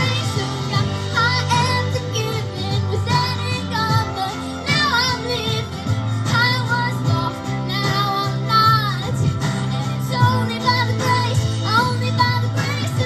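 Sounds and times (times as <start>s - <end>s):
young women singing worship song: 0.0s - 13.0s.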